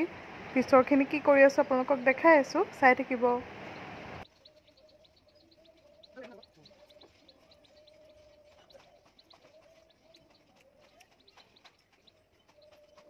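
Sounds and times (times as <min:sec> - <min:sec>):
high bird chirps: 0:00.0 - 0:13.0.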